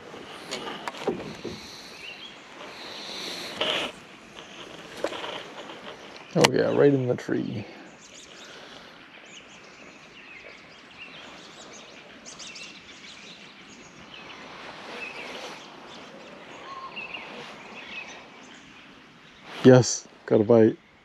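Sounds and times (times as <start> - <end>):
birds chirping and calling: 0.0 - 21.0
steady outdoor hiss: 0.0 - 21.0.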